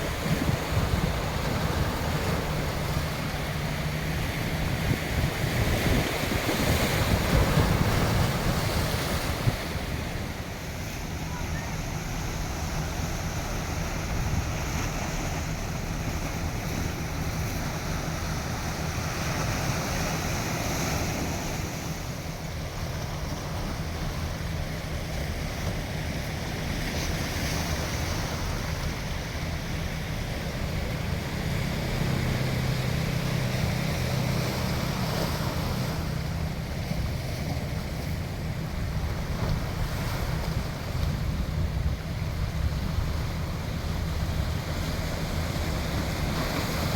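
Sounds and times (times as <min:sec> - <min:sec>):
sea waves washing in: 0:00.0 - 0:46.9
wind rumble on microphone: 0:00.0 - 0:46.9.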